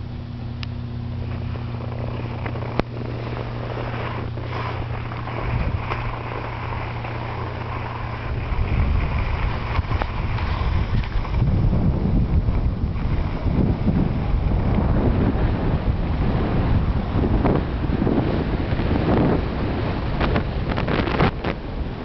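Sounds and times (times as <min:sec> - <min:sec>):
low hum: 0:00.0 - 0:22.0
wind buffeting microphone: 0:00.0 - 0:22.0
skis sliding on snow: 0:01.2 - 0:22.0.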